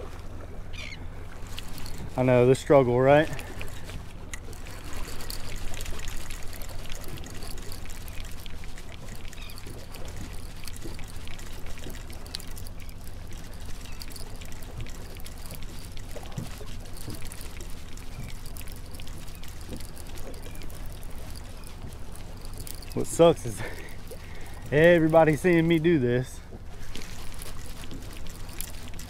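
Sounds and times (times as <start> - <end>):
low steady hum: 0.0 - 29.0
water splashing against boat hull: 0.0 - 29.0
fishing reel clicking: 0.8 - 2.5, 3.1 - 26.2, 26.8 - 29.0.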